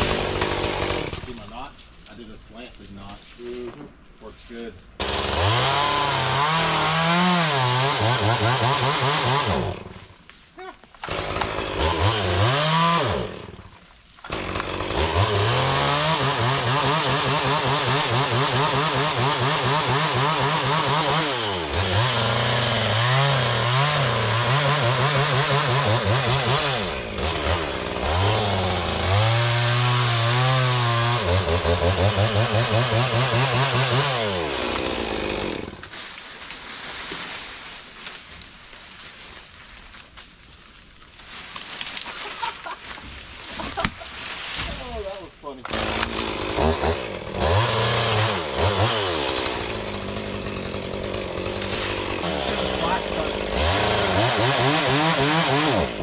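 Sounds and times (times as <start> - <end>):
chainsaw cutting wood: 0.0 - 1.7, 5.0 - 10.2, 10.9 - 37.4, 41.6 - 56.0.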